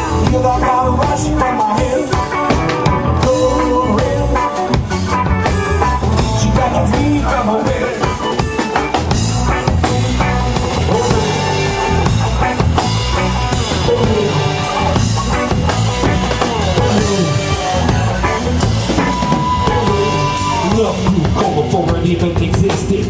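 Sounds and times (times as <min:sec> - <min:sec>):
live reggae band playing: 0:00.0 - 0:23.0.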